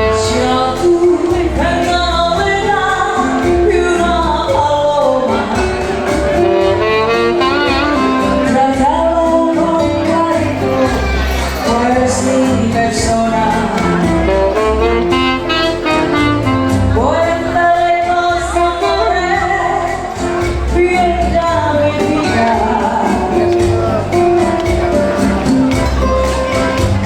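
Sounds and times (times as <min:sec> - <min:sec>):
band music: 0:00.0 - 0:27.0
bass beat: 0:00.0 - 0:27.0
person singing: 0:00.0 - 0:27.0.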